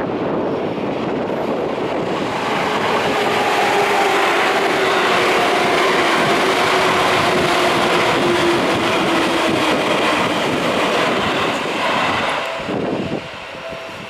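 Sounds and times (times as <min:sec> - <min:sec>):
electric train running past: 0:00.0 - 0:14.0.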